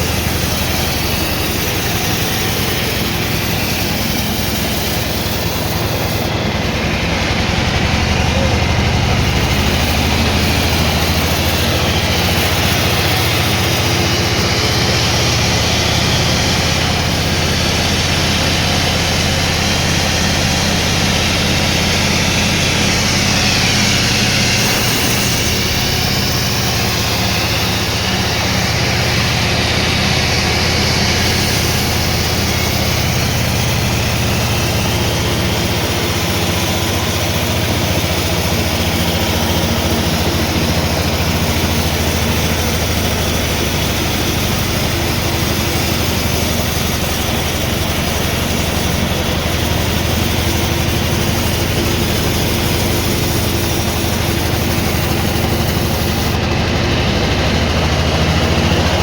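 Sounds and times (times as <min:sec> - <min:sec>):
low motor hum: 0:00.0 - 0:59.0
sawmill machinery running: 0:00.0 - 0:59.0.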